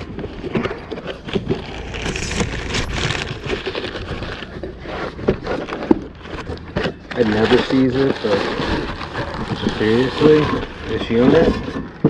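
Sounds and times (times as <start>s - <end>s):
rustling noise: 0.0s - 11.9s.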